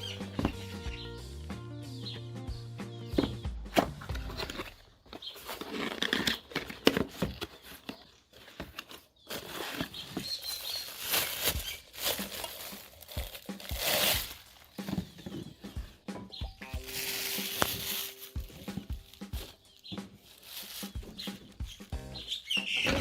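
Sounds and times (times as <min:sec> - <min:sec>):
plastic and cardboard rustling: 0:00.0 - 0:00.8, 0:03.2 - 0:22.0.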